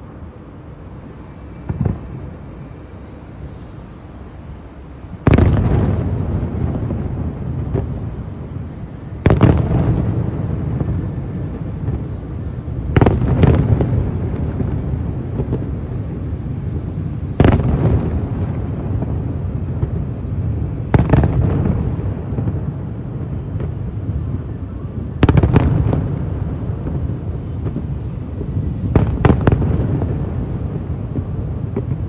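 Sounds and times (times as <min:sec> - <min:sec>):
fireworks booming: 0:01.0 - 0:04.0, 0:05.0 - 0:32.0.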